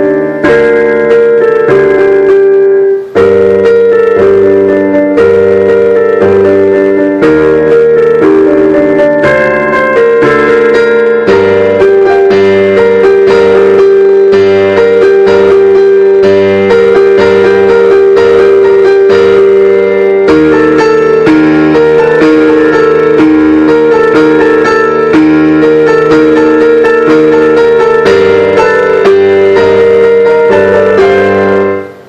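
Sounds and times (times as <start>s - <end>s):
solo keyboard music: 0.0s - 32.0s.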